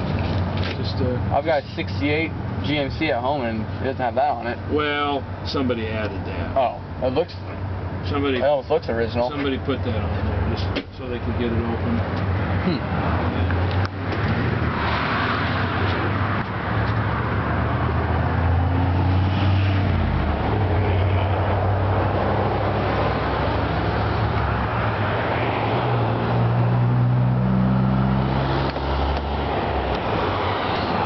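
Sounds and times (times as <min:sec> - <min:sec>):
road noise: 0:00.0 - 0:31.0
vehicle engine hum: 0:00.0 - 0:31.0.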